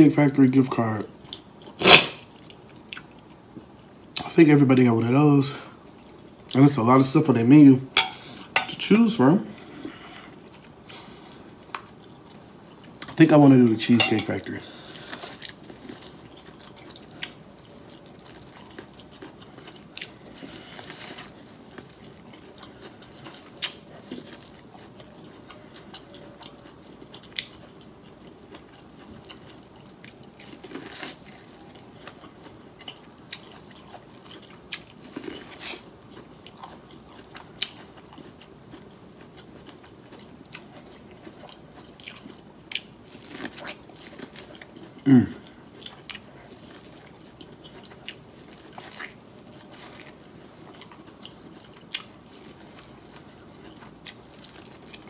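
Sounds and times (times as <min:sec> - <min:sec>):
crisp chewing crunches: 0:09.6 - 0:55.0.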